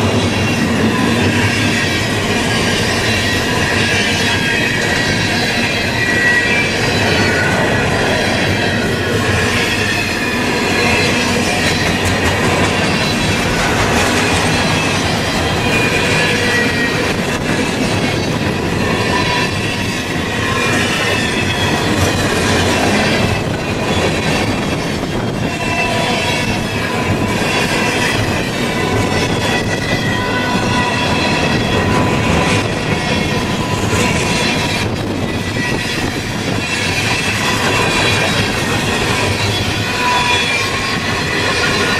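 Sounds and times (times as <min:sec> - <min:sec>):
train wheels clattering over rails: 0:00.0 - 0:41.9
wheel squeals on rail: 0:00.0 - 0:41.9.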